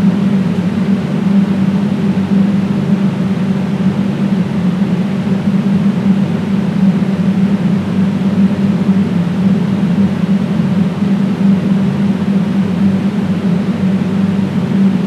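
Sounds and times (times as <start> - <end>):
loud droning hum with hiss: 0.0 - 15.0.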